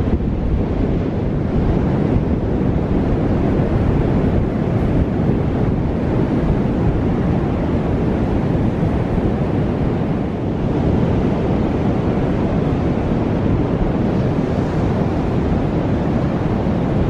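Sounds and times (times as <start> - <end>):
ocean surf washing in: 0.0 - 17.0
wind buffeting microphone: 0.0 - 17.0.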